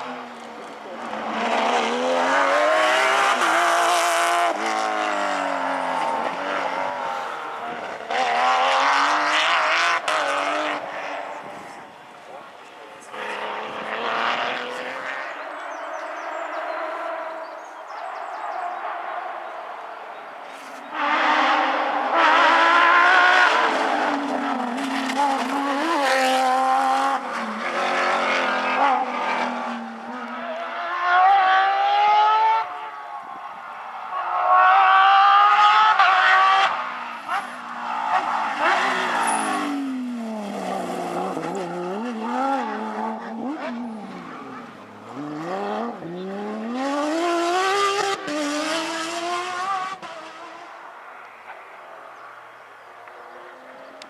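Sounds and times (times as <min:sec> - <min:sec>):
rally car engine revving: 0:00.0 - 0:19.2, 0:20.5 - 0:50.8.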